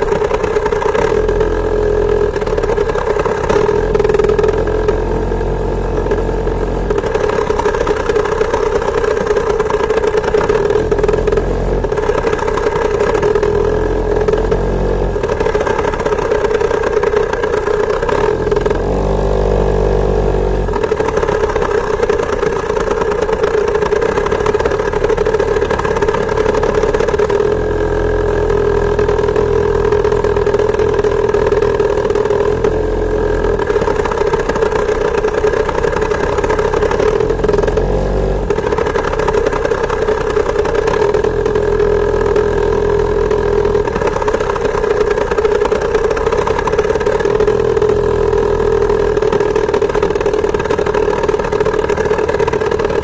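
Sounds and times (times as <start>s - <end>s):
two-stroke moped engine running: 0.0s - 53.0s.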